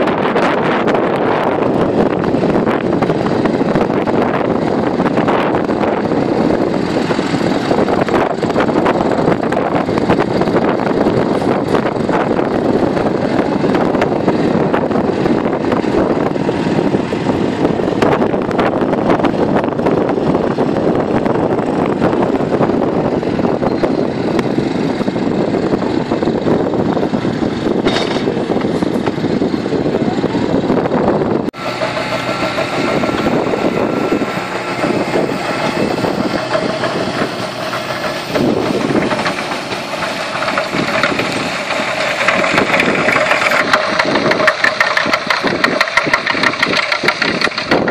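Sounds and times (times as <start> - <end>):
manure spreader whine: 0.0 - 47.9
tractor engine under load: 0.0 - 47.9.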